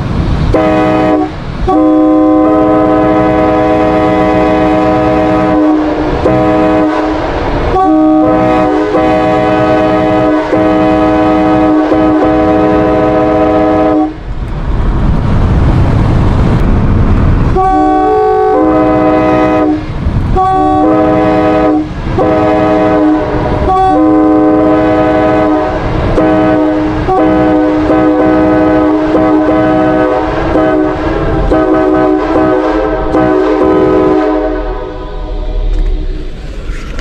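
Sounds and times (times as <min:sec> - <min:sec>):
low rumbling: 0:00.0 - 0:37.0
train air horn chord: 0:00.5 - 0:14.2, 0:17.6 - 0:35.7.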